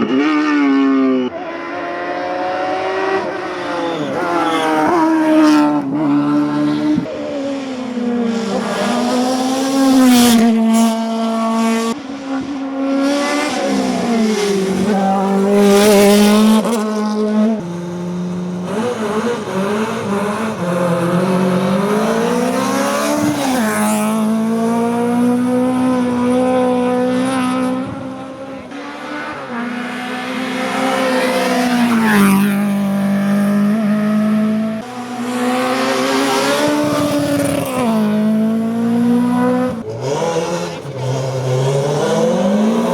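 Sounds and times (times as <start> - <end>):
racing car engine at full throttle: 0.0 - 42.9.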